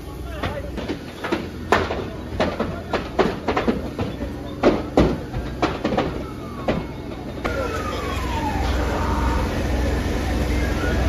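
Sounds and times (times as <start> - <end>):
fireworks bangs: 0.5 - 9.6.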